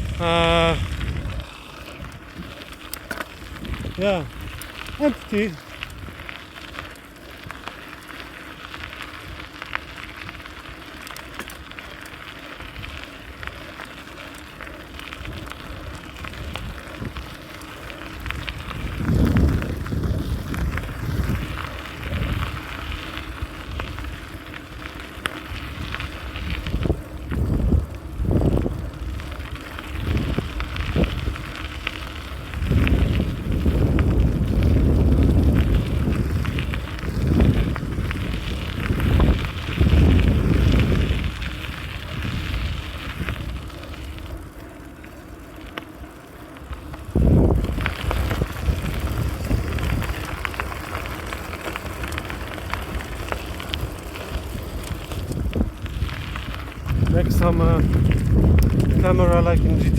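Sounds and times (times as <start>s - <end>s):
tyres crackling along a path: 0.0s - 59.9s
wind buffeting microphone: 0.0s - 59.9s.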